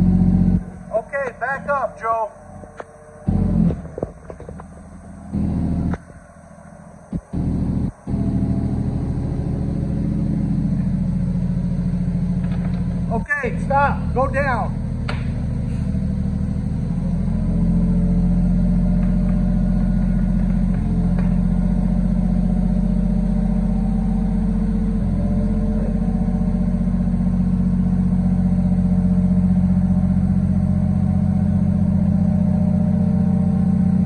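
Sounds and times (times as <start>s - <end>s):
lift engine running: 0.0s - 34.0s.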